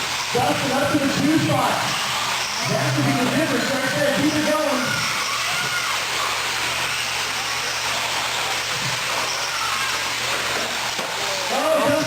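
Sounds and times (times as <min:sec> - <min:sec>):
faint motor whines: 0:00.0 - 0:12.0
rc truck motors whirring: 0:00.0 - 0:12.0.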